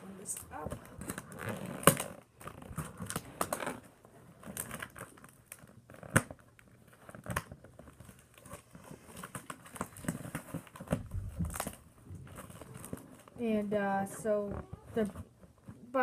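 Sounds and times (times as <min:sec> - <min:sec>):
packaging crackling and clicking: 0:00.2 - 0:13.4.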